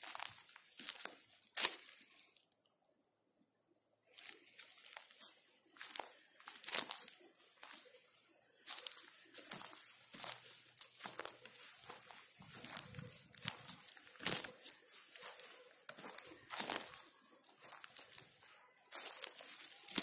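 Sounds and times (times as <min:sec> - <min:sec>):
footsteps crunching on forest floor: 0:00.0 - 0:02.5, 0:04.1 - 0:20.0.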